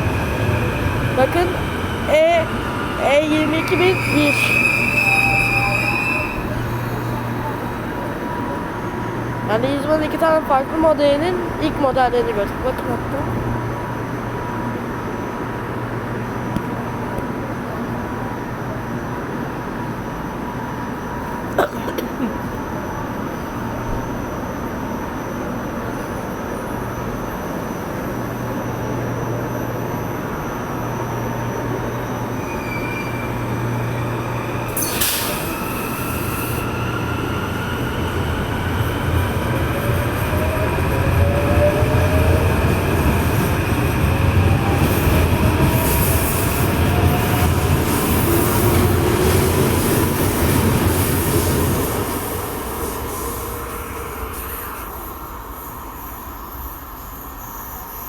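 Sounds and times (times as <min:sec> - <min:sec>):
train rolling on track: 0:00.0 - 0:58.0.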